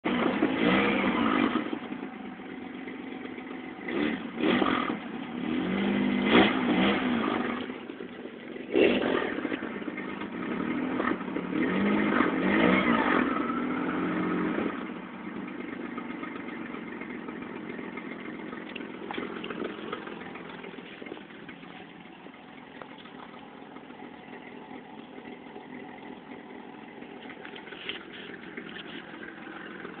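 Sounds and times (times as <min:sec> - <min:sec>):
car engine revving and idling: 0:00.0 - 0:30.0.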